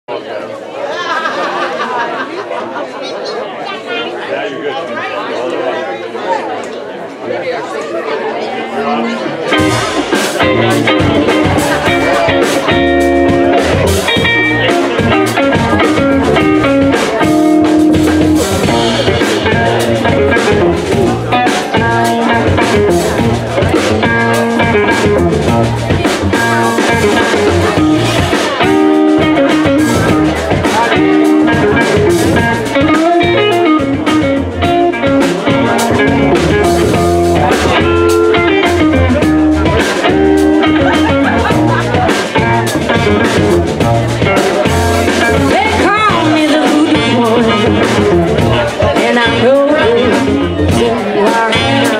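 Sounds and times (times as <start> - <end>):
small swing band playing: 8.3 - 51.9
electric guitar: 8.8 - 51.9
upright bass: 8.8 - 51.9
drum and cymbal beat: 9.5 - 51.9.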